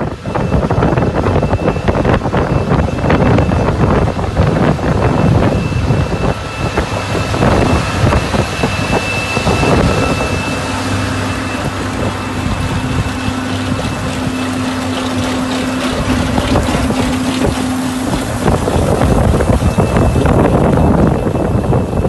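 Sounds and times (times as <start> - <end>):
steady hum: 0.0 - 22.0
tractor and harvester rumble: 0.0 - 22.0.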